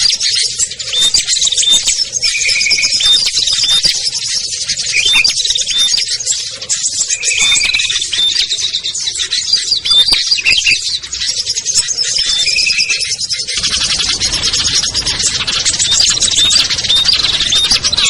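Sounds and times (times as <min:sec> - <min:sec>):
clear whistled bird notes: 0:00.0 - 0:18.0
songbirds chirping and trilling: 0:00.0 - 0:18.0.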